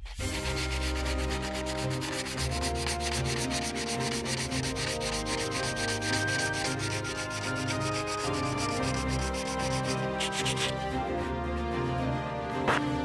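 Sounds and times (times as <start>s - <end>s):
sanding strokes on plastic: 0.0s - 10.8s.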